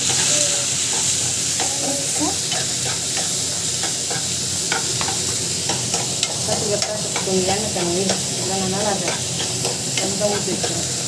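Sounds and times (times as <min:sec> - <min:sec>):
metal spoon scraping a pan: 0:00.0 - 0:10.9
onions sizzling in oil: 0:00.0 - 0:11.0.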